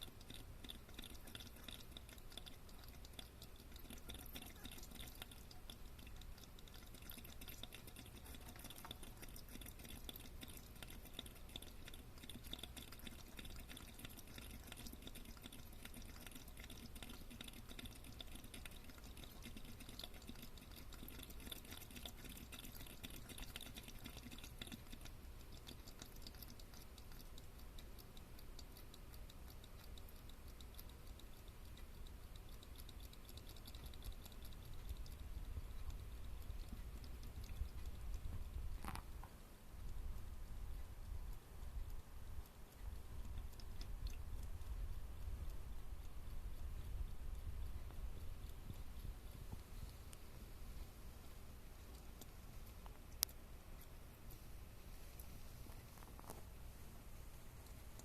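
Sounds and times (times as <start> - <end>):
crab crackles and clicks: 0.0 - 40.0, 42.4 - 50.4, 51.7 - 54.6.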